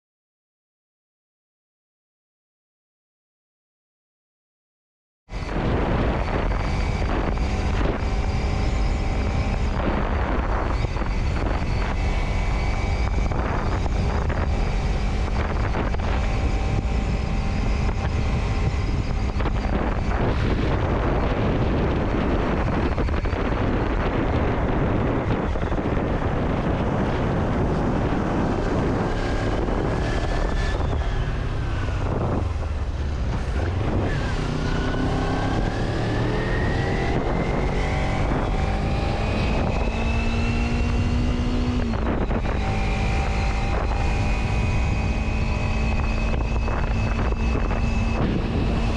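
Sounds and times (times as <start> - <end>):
road noise: 5.3 - 48.9
vehicle engine: 5.3 - 48.9
wind buffeting microphone: 5.3 - 48.9.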